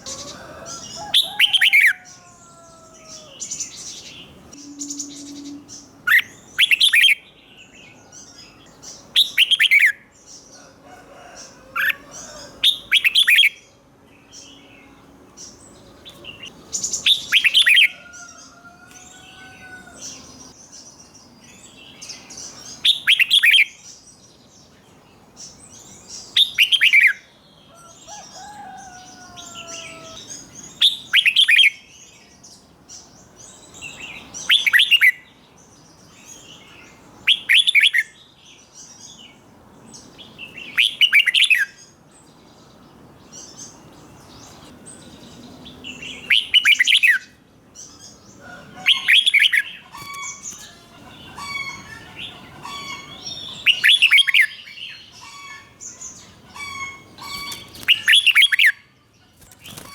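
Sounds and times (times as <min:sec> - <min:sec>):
bird song phrases: 0:00.0 - 0:59.9
other birds chirping: 0:00.0 - 0:59.9.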